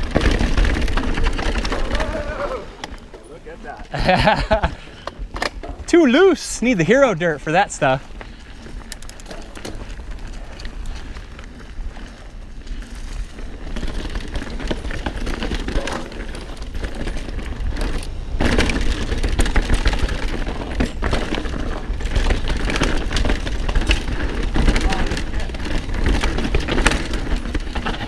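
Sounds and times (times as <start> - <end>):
bike rattling: 0.0 - 28.0
tyres crunching and skidding on dirt: 0.0 - 28.0.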